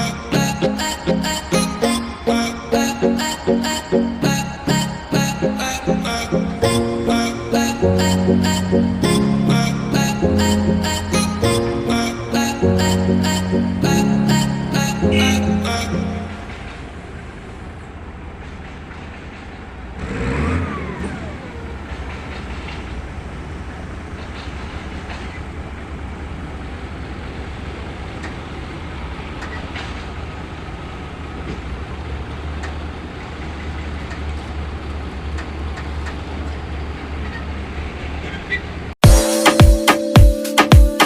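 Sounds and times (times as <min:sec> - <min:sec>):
mobile crane engine running: 0:00.0 - 0:38.9.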